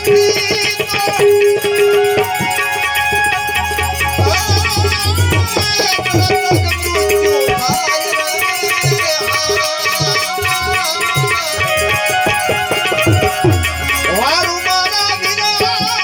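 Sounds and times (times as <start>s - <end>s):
hand drum beat: 0.0s - 8.2s, 8.8s - 14.5s
folk melody line: 0.0s - 16.0s.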